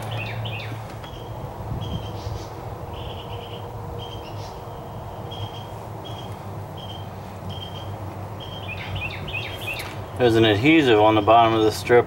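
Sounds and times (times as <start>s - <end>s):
bird chirping: 0.0s - 10.0s
steady low hum: 0.0s - 12.0s.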